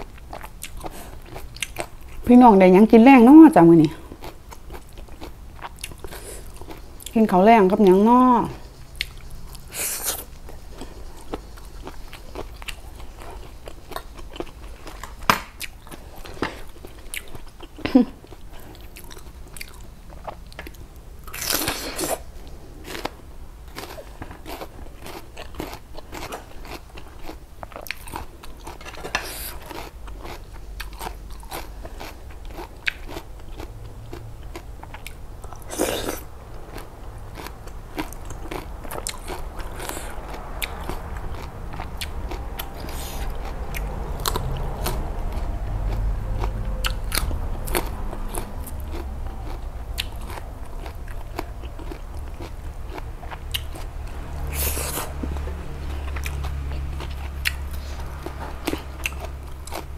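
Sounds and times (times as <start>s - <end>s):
crunchy chewing of raw vegetables: 0.0s - 59.9s.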